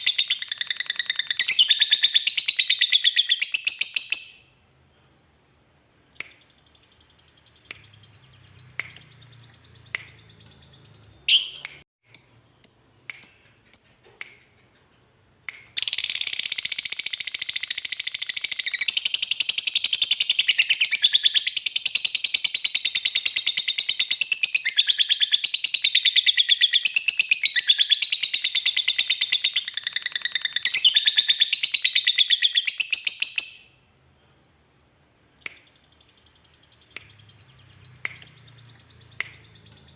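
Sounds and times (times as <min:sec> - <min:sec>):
lovebird sharp chirps: 0:00.0 - 0:14.4, 0:15.5 - 0:39.9.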